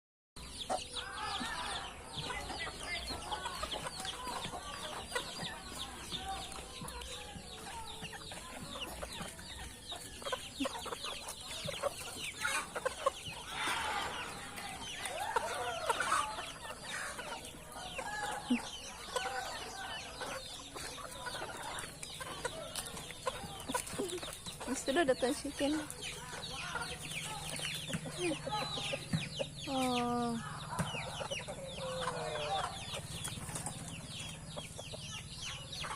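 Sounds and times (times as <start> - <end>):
chickens clucking and calling: 0.4 - 35.9.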